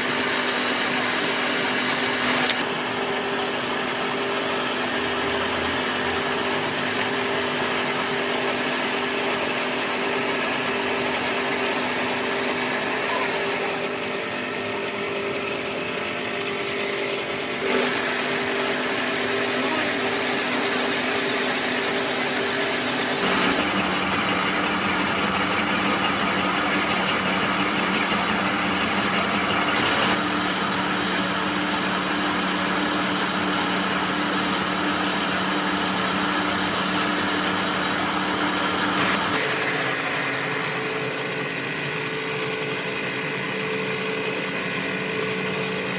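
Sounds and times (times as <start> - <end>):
machine motor humming: 0.0 - 45.9.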